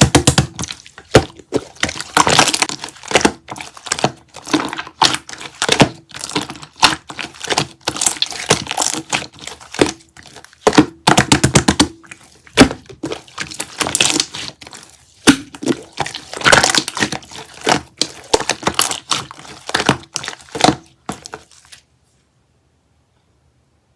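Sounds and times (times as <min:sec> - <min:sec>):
crinkly material crackling: 0:00.5 - 0:10.8, 0:11.7 - 0:21.9.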